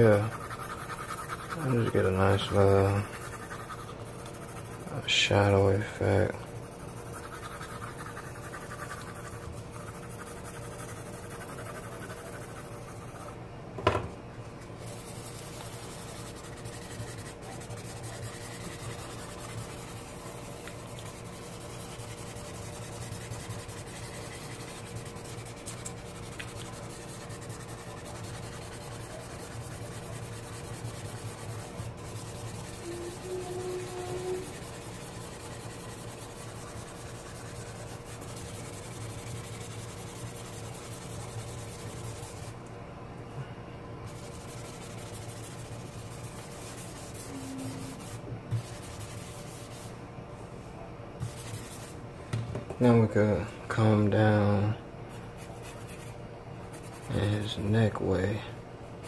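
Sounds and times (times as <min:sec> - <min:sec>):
soft rubbing on paper: 0:00.0 - 0:13.4, 0:14.8 - 0:42.6, 0:44.0 - 0:52.0, 0:55.1 - 0:59.0.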